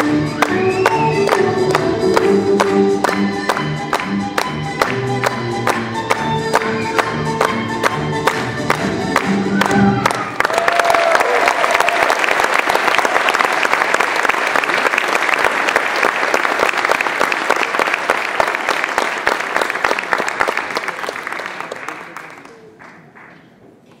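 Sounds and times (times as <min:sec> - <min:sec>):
audience applauding: 0:00.0 - 0:23.5.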